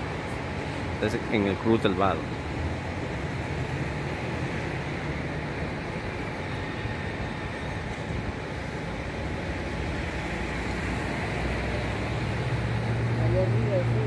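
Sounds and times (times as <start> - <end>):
city traffic hum: 0.0 - 14.0.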